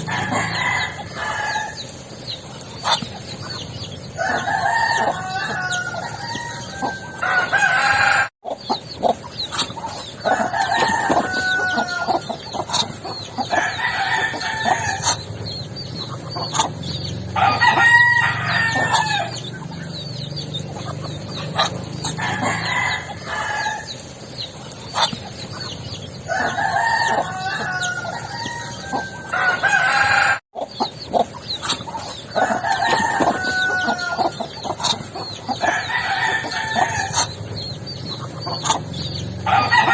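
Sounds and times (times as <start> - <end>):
roosters crowing: 0.0 - 2.2, 2.8 - 39.9
chickens clucking and chirping: 0.0 - 39.9.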